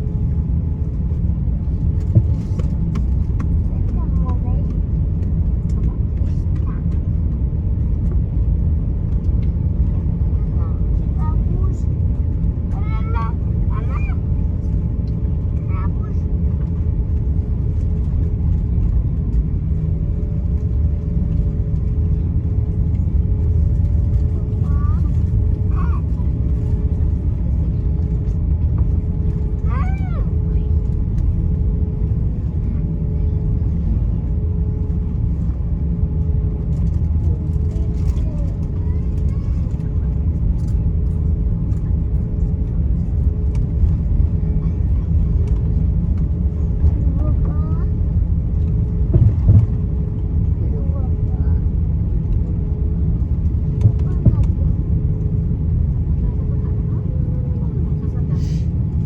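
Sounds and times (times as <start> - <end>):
aircraft cabin engine rumble: 0.0 - 59.0
steady hum: 0.0 - 59.0.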